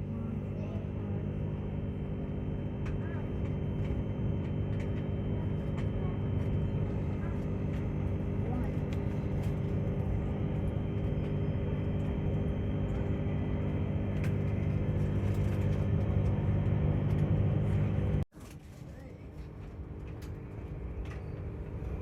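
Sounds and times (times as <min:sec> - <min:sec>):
train running rumble: 0:00.0 - 0:18.2.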